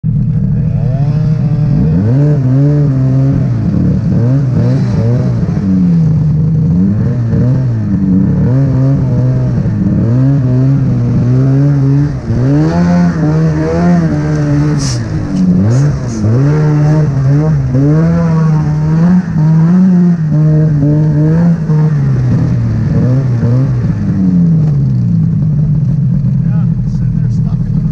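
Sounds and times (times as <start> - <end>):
snowmobile engine revving: 0.0 - 27.9.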